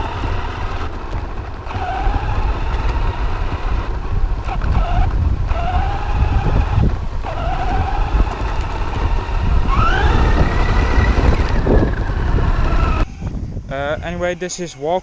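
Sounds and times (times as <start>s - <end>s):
car bouncing over rough ground: 0.0s - 13.0s
toy car motor whining: 0.0s - 13.3s.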